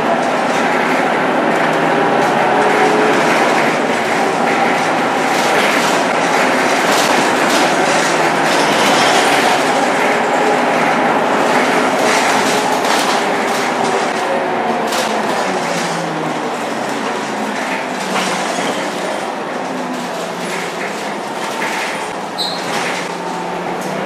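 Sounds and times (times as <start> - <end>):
clicking and rattling of bus body: 0.0 - 24.0.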